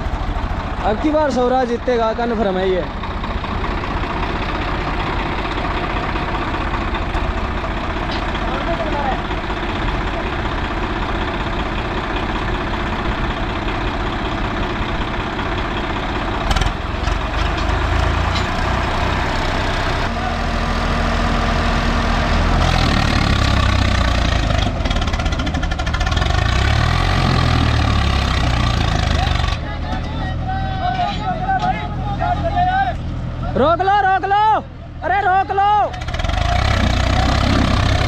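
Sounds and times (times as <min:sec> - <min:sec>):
tractor diesel engines under load: 0:00.0 - 0:38.0.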